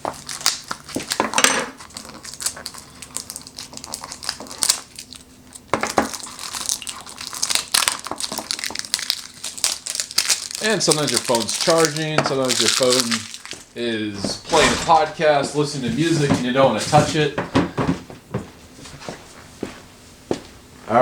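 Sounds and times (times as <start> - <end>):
packaging crinkling and rustling: 0.0 - 17.2.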